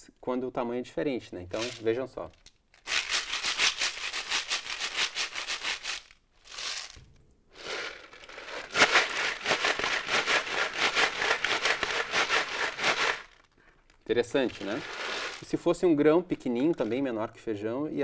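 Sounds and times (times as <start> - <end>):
bean shaker rattling: 1.6 - 17.1.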